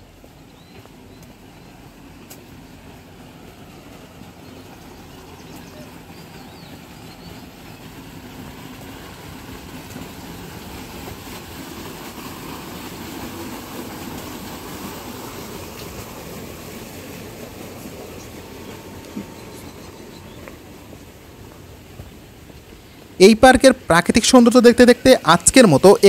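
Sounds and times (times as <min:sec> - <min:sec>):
outdoor rumbling noise: 0:00.0 - 0:26.0.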